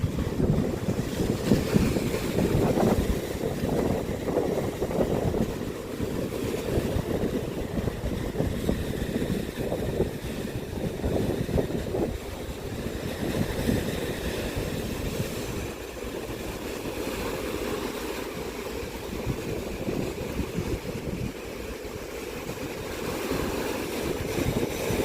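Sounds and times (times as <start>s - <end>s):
waves washing: 0.0s - 25.0s
wind buffeting microphone: 0.0s - 25.0s.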